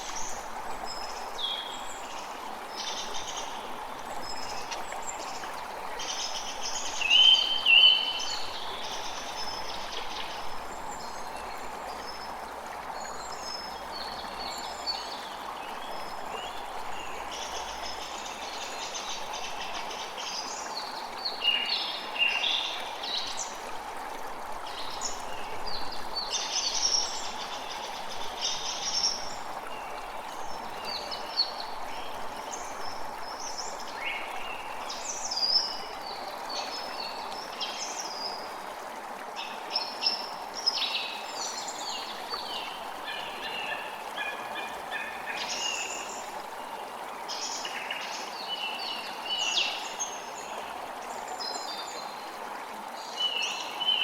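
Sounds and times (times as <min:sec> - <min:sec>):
creek rushing: 0:00.0 - 0:54.0.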